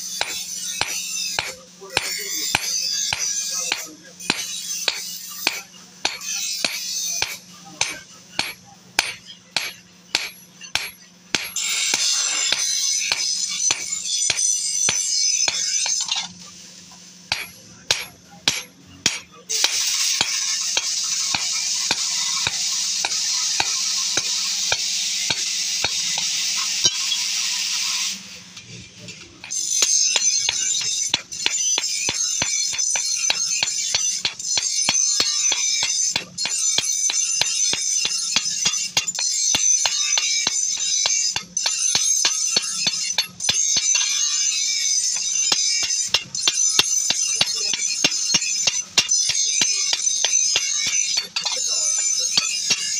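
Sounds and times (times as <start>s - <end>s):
hammer striking metal on anvil: 0.0s - 16.4s, 17.3s - 28.1s, 29.2s - 52.9s
loud steady hiss: 0.0s - 52.9s.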